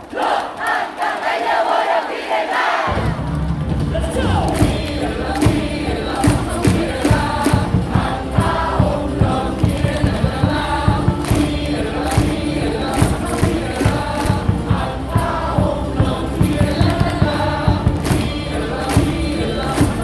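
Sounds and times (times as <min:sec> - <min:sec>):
crowd singing in unison: 0:00.0 - 0:20.0
amplified music: 0:02.9 - 0:20.0
steady drum beat: 0:02.9 - 0:20.0.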